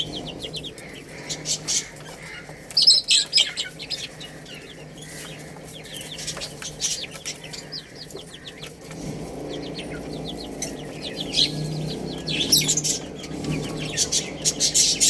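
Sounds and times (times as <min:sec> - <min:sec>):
baby chicks peeping: 0:00.0 - 0:15.0
low clucking: 0:00.0 - 0:15.0.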